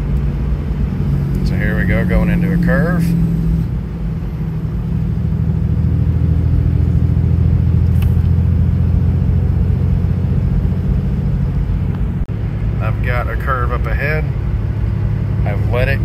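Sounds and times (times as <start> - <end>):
diesel engine drone: 0.0 - 16.0.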